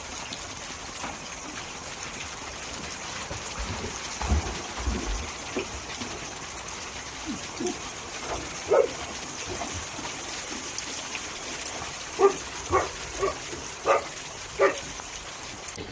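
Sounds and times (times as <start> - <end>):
steady wash of water: 0.0 - 15.9
water sloshing and splashing: 0.0 - 15.9.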